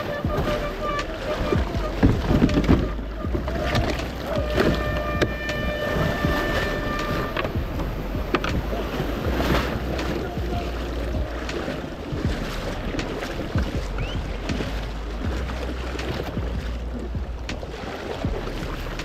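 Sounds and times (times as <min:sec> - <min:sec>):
knocks against hull: 0:00.0 - 0:19.0
water splashing and sloshing: 0:00.0 - 0:19.0
wind buffeting microphone: 0:00.0 - 0:19.0.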